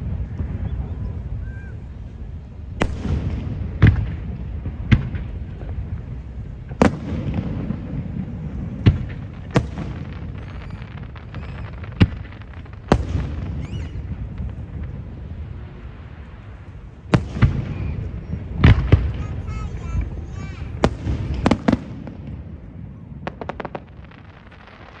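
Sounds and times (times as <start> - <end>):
steady low rumble: 0.0 - 24.1
fireworks bursting: 0.0 - 25.0.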